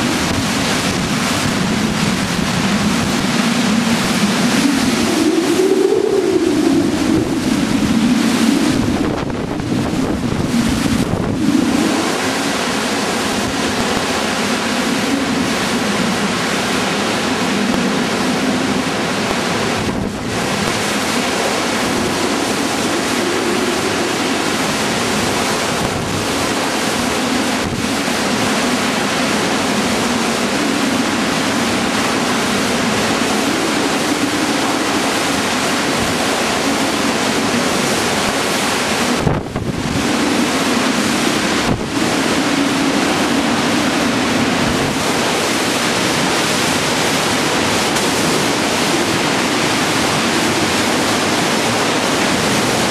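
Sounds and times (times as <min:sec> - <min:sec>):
strong wind through trees: 0:00.0 - 0:52.9.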